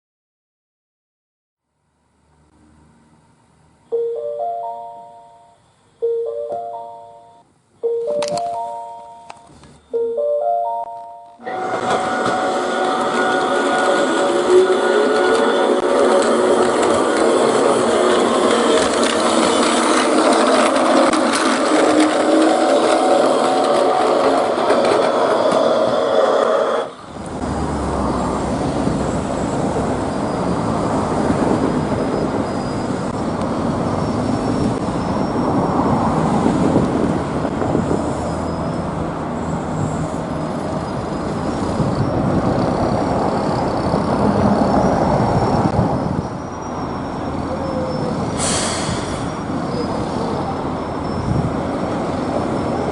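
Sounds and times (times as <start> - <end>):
train rumbling on rails: 2.2 - 52.9.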